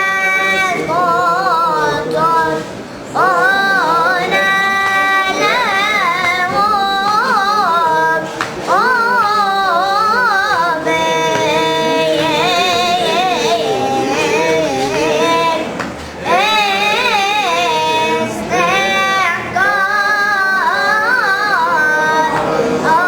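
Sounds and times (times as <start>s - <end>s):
child singing: 0.0s - 23.0s.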